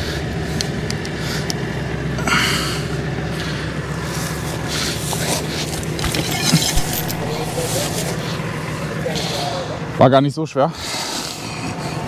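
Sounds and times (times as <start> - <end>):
man straining breaths: 0.0 - 9.8
engine idling: 0.0 - 12.0.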